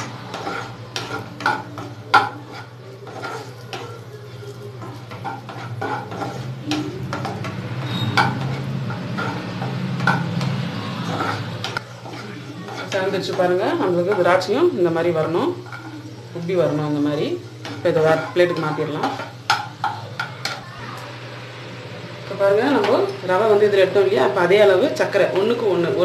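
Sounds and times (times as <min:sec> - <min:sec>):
spatula scraping pan: 0:00.0 - 0:21.0
food sizzling in pan: 0:00.0 - 0:26.0.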